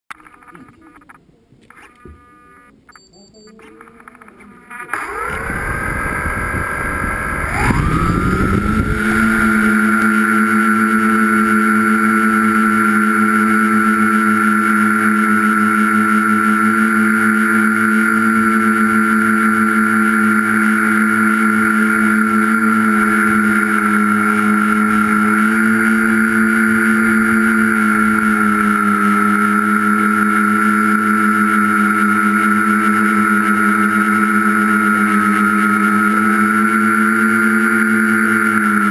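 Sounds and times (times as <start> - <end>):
drone motors buzzing whine: 0.2 - 38.9.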